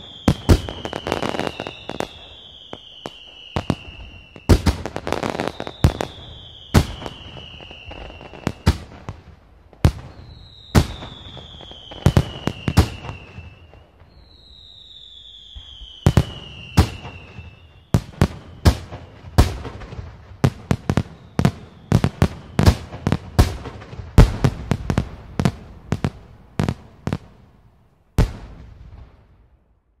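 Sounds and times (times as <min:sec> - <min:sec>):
descending firework whistles: 0:00.0 - 0:09.1, 0:09.9 - 0:27.2
fireworks bangs: 0:00.0 - 0:29.7.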